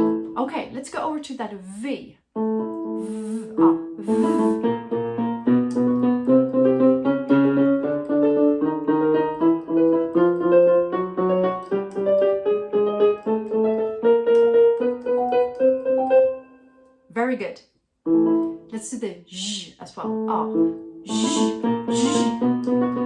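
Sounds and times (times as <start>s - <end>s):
piano note and chord patterns: 0.0s - 0.4s, 2.4s - 17.1s, 18.1s - 18.7s, 20.1s - 23.0s.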